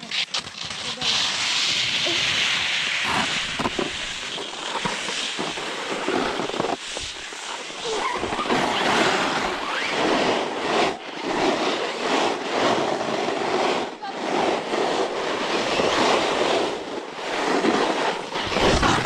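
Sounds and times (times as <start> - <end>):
snowboard scraping over snow: 0.0 - 19.0.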